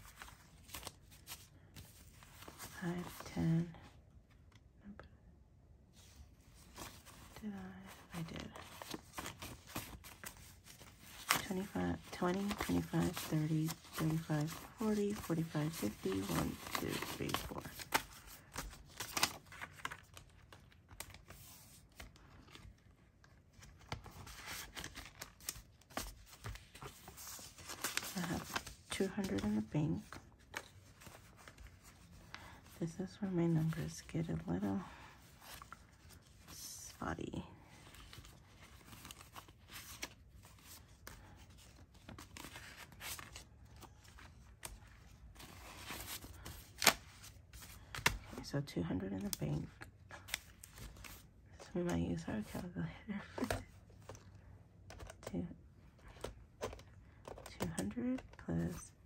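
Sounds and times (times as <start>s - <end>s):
banknotes and plastic pouch rustling: 6.0s - 37.0s, 37.6s - 59.0s.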